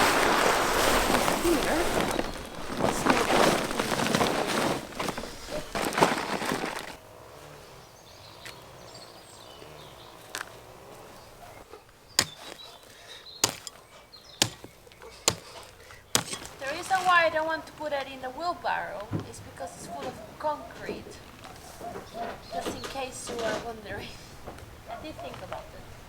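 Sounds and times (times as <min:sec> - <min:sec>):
earth and sand scraping: 0:00.0 - 0:26.0.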